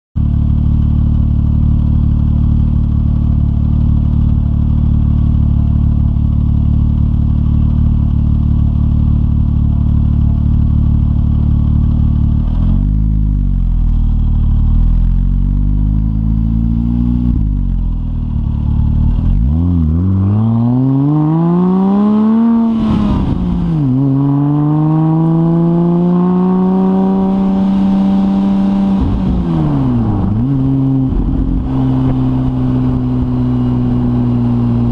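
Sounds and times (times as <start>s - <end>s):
car engine idling and revving: 0.2s - 34.9s.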